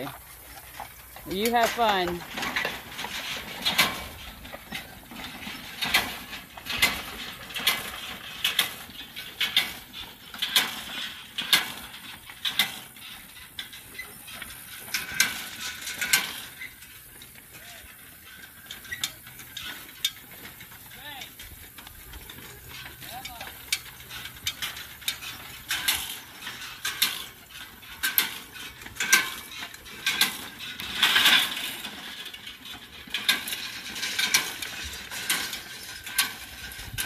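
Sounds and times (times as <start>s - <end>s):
hay rake gears and tines rattling: 0.0s - 37.0s.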